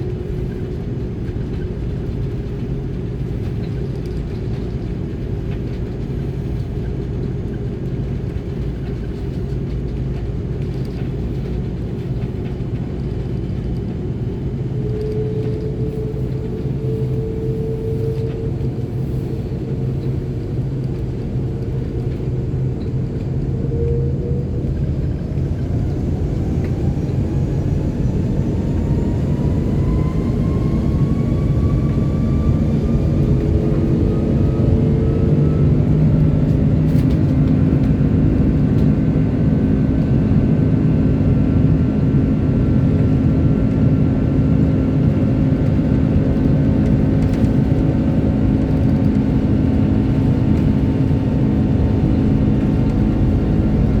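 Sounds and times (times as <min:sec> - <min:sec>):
jet engine rumble: 0:00.0 - 0:54.0
jet engine whine rising: 0:00.0 - 0:54.0.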